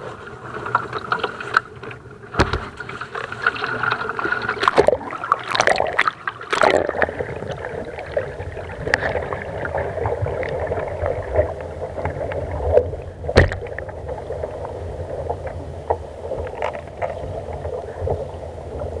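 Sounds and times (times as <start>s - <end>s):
muffled underwater rush: 0.0s - 19.0s
water splashing over camera: 0.0s - 19.0s.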